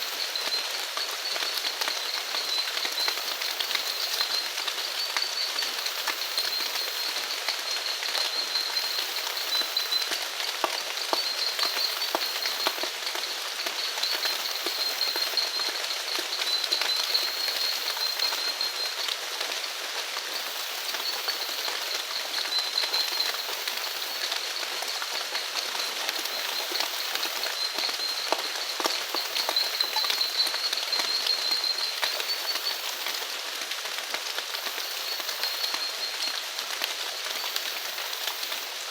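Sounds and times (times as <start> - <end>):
rain drops ticking: 0.0 - 38.9.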